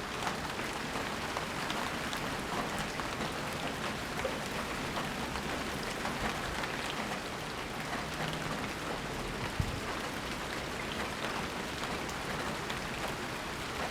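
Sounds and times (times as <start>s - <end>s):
steady rain falling: 0.0s - 13.9s.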